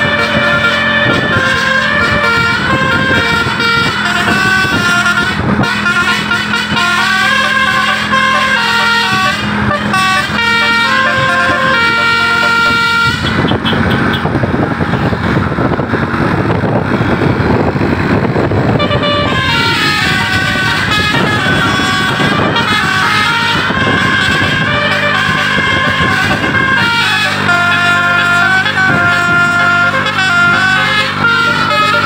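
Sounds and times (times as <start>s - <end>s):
bus horn melody: 0.0s - 32.0s
engine and road noise: 0.0s - 32.0s.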